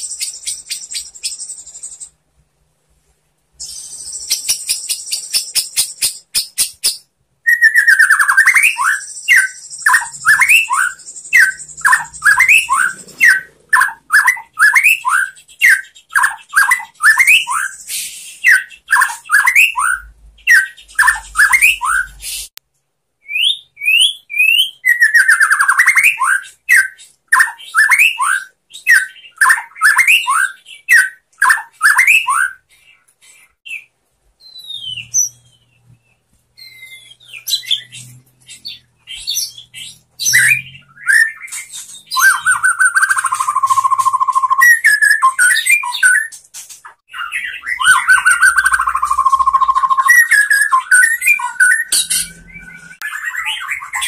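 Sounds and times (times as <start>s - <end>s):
bird singing whistled notes: 0.0s - 2.2s, 3.6s - 22.5s, 23.2s - 33.0s, 33.7s - 46.4s, 47.1s - 54.0s.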